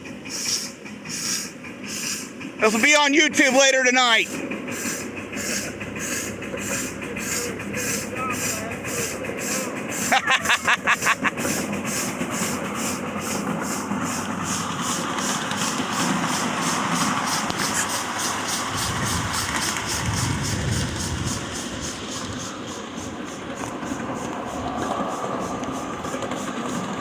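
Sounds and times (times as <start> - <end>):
steam locomotive chuffing: 0.0 - 27.0.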